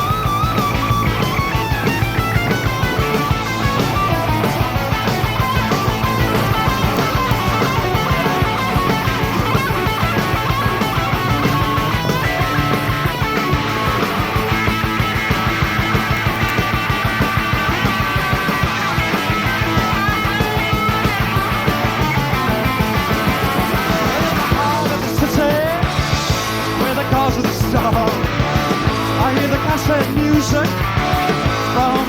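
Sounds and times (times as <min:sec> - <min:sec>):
rock band playing: 0:00.0 - 0:32.0
sliding guitar notes: 0:00.0 - 0:32.0.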